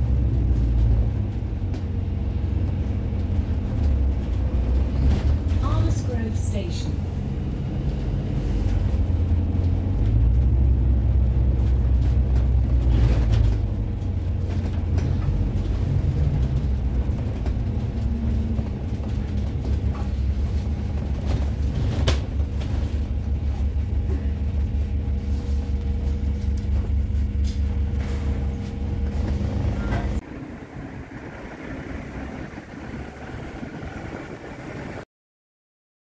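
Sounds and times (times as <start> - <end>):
bus interior rumble: 0.0 - 35.1.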